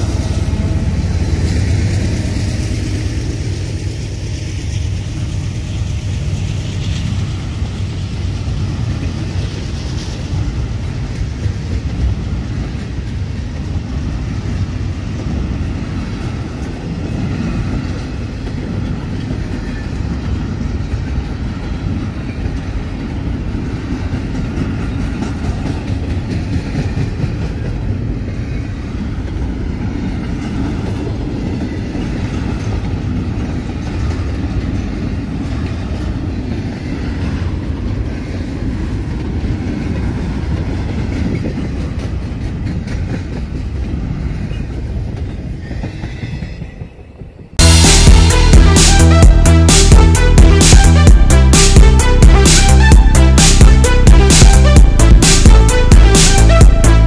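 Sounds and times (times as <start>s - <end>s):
freight train passing on rails: 0.0s - 57.0s.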